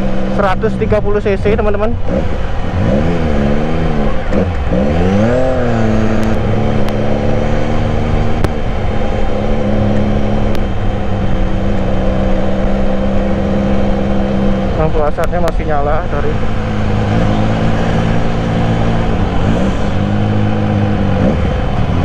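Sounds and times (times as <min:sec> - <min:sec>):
motorcycle engine revving and cruising: 0:00.0 - 0:22.0.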